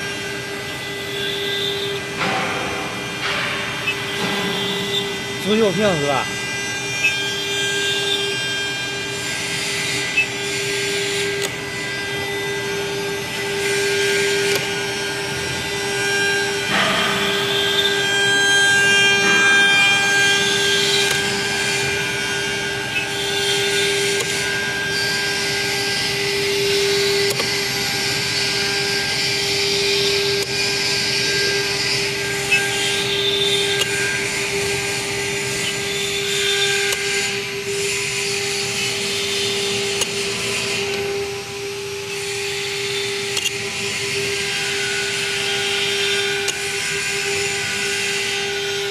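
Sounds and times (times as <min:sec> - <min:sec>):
cnc router spindle running: 0:00.0 - 0:48.9.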